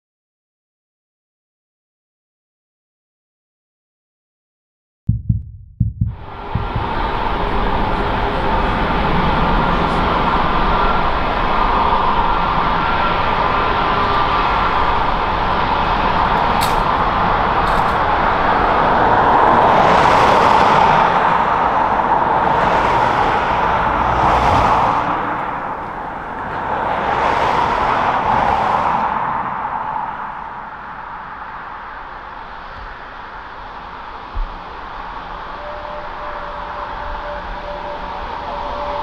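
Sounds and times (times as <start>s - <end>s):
jet engines taxiing: 6.3s - 39.0s.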